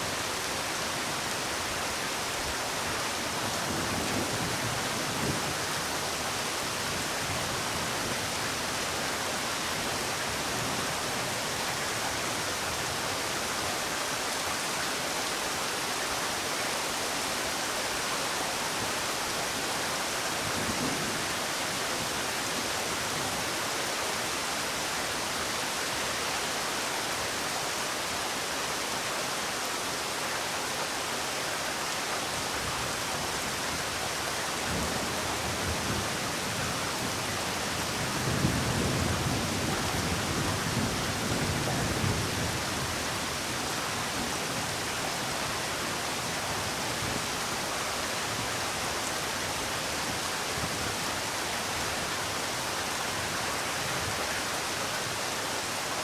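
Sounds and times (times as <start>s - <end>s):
steady rainfall hissing: 0.0s - 56.0s.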